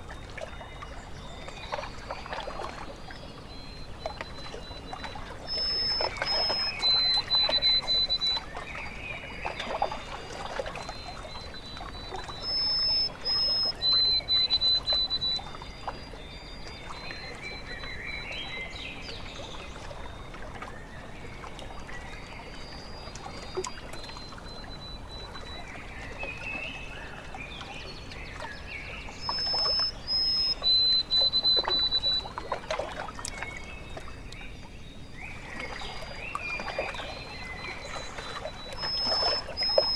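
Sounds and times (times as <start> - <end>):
lake water lapping: 0.0 - 39.9
bird singing whistled phrases: 0.6 - 19.2, 22.6 - 27.1, 28.0 - 32.5, 34.3 - 39.9
softer bird calls: 0.6 - 20.2, 21.8 - 32.5, 33.3 - 39.9.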